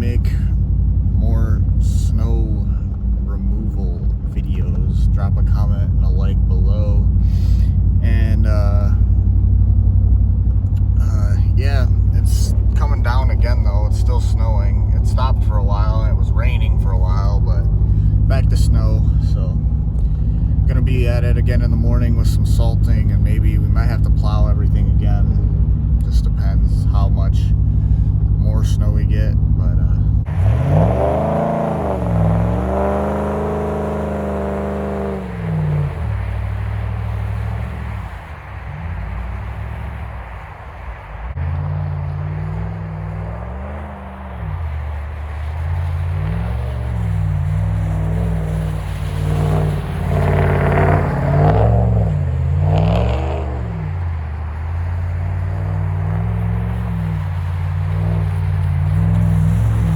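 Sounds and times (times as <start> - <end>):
vehicle engine revving and idling: 0.0 - 59.9.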